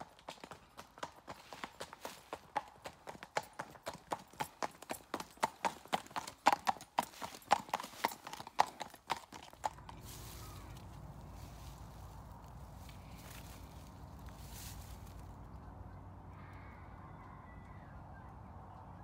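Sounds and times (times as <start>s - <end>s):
horse hooves clip-clopping on tarmac: 0.0s - 15.6s.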